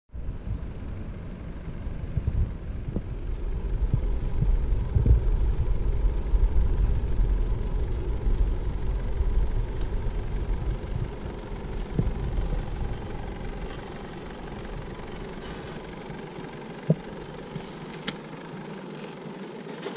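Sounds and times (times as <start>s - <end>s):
vehicle engine running low: 0.1s - 19.9s.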